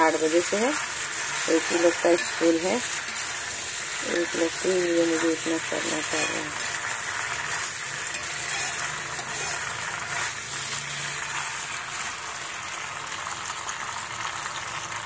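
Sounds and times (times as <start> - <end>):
spatula stirring: 0.0 - 12.4
pasta hissing in pan: 0.0 - 15.0.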